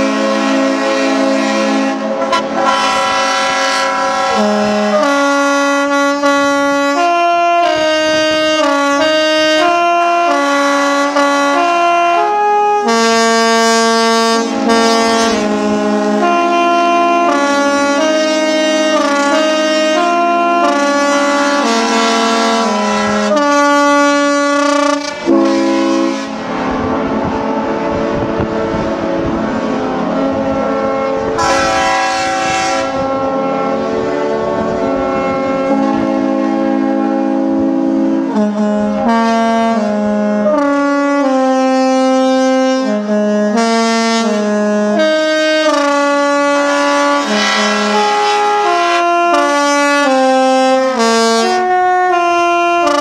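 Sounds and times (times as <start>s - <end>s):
musical air horns playing a tune: 0.0s - 53.0s.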